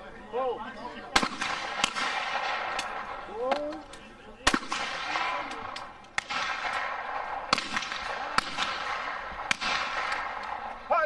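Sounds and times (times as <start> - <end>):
shotgun shots: 1.1 - 3.4, 4.4 - 11.0.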